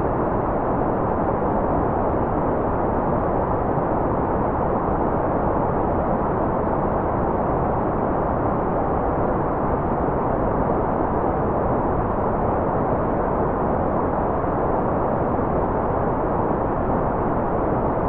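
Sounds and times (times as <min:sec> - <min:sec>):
dull rushing white noise hiss: 0:00.0 - 0:18.0.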